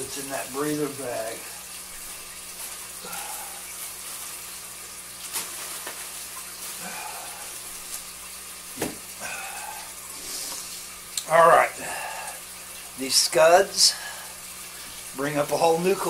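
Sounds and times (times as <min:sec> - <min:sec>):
trickling aquarium water: 0:00.0 - 0:16.0.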